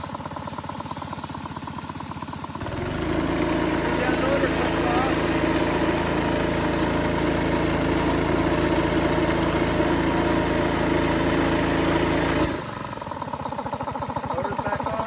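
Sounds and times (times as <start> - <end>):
air compressor engine running: 0.0 - 15.0.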